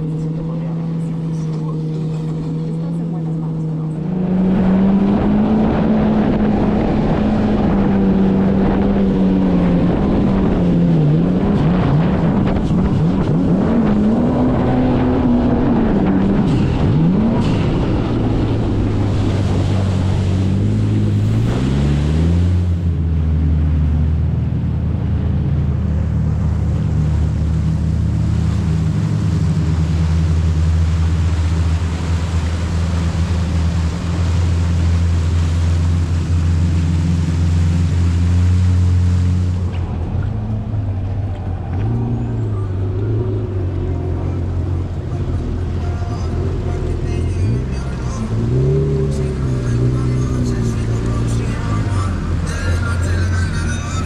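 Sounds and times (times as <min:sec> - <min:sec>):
jet ski engine: 0:00.0 - 0:54.0
rush of wind and water: 0:00.0 - 0:54.0.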